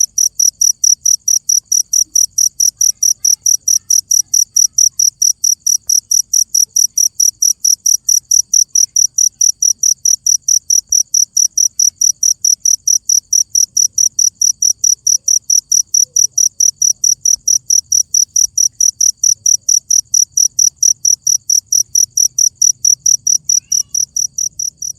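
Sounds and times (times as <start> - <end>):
cricket chirping: 0.0 - 24.9.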